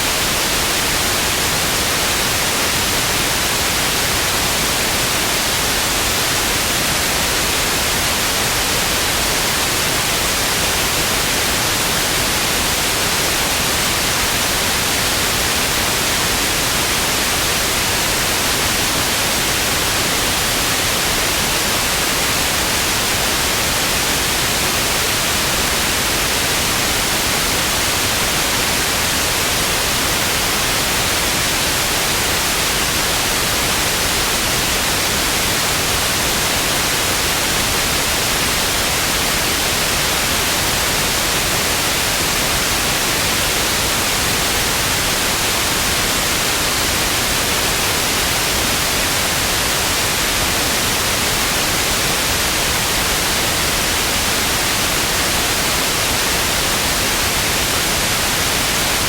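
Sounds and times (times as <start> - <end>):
television static hiss: 0.0 - 59.0.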